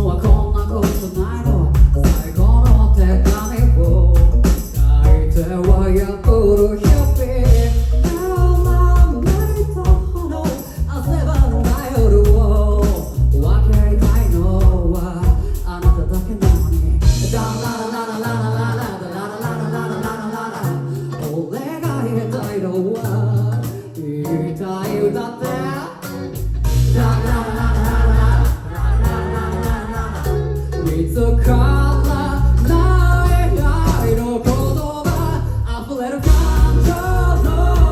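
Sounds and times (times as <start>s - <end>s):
live band music with singing: 0.0s - 37.9s.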